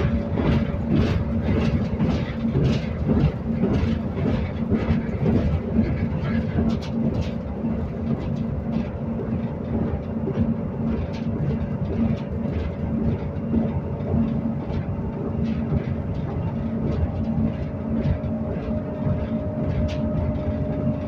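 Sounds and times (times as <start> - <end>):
constant low hum: 0.0 - 21.0
train wheels rumbling on rail: 0.0 - 21.0.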